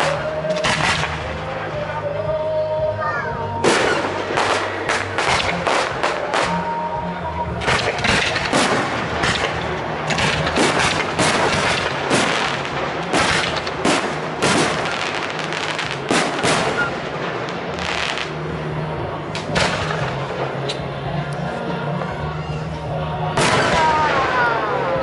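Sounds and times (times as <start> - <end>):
fireworks bursts and crackles: 0.0 - 2.8, 3.6 - 25.0
music playing: 0.0 - 25.0.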